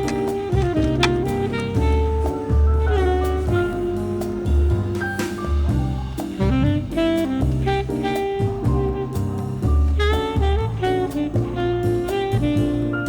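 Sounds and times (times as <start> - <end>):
saxophone-like melody: 0.0 - 5.0, 6.4 - 13.0
bass: 0.0 - 13.0
steady drum beat: 0.0 - 13.0.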